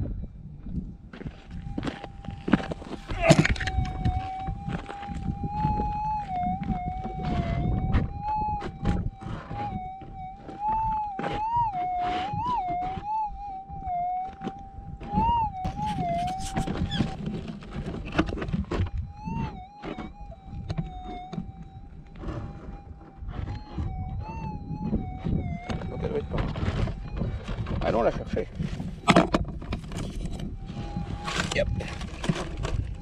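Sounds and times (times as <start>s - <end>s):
metal detector warbling tone: 1.5s - 33.0s.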